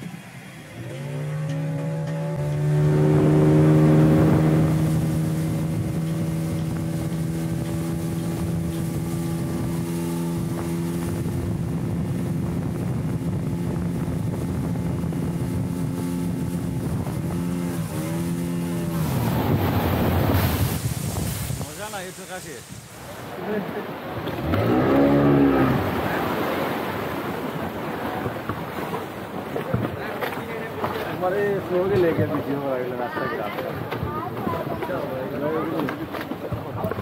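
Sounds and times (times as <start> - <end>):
rushing water and wind: 0.0 - 37.0
speedboat engine running: 0.0 - 37.0.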